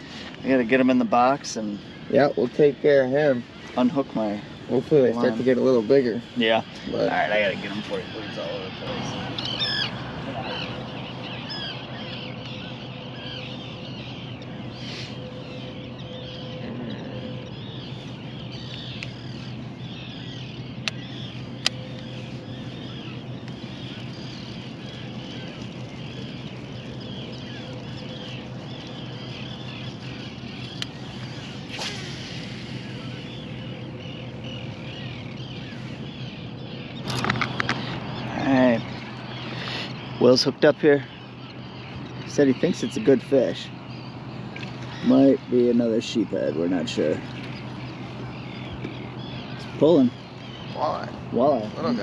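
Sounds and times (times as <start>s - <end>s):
birds chirping chorus: 0.0s - 52.0s
steady low hum: 0.0s - 52.0s.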